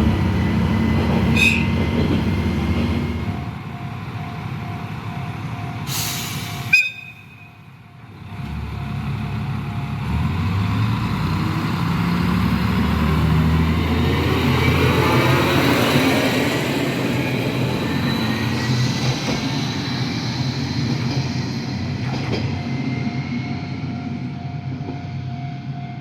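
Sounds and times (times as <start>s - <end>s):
diesel railcar accelerating: 0.0s - 26.0s.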